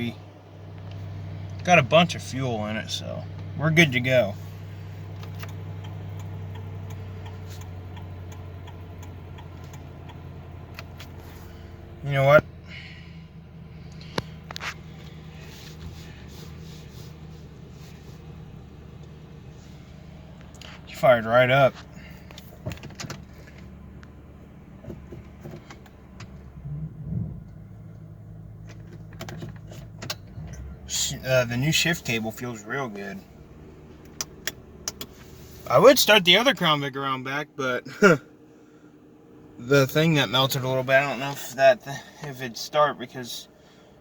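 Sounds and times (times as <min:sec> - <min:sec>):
car engine idling: 0:00.0 - 0:44.0
regular engine ticking: 0:00.0 - 0:44.0.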